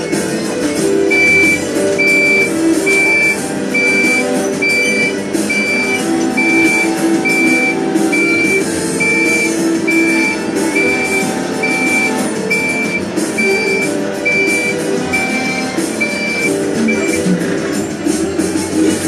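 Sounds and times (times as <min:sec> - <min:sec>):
reversing alarm beeping: 0:00.6 - 0:17.5.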